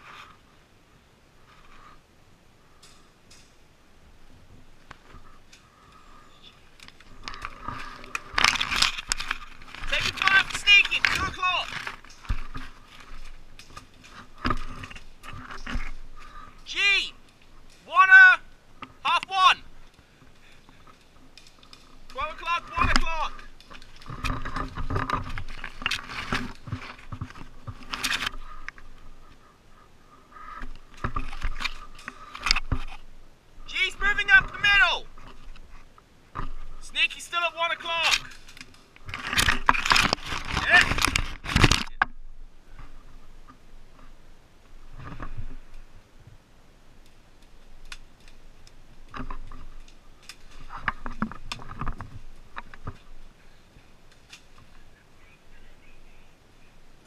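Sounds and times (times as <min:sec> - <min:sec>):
branches scraping against camera: 0:00.0 - 0:00.6, 0:01.4 - 0:02.1, 0:02.7 - 0:46.0, 0:47.0 - 0:55.3.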